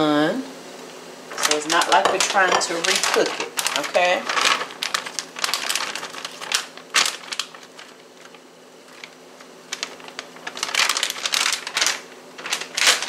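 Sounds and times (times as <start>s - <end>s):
plastic bag crinkling: 1.3s - 13.0s.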